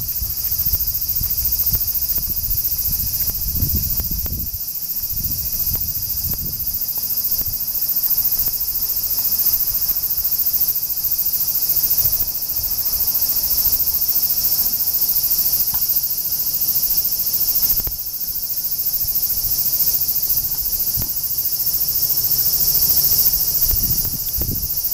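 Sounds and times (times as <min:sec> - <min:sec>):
cicadas buzzing: 0:00.0 - 0:24.9.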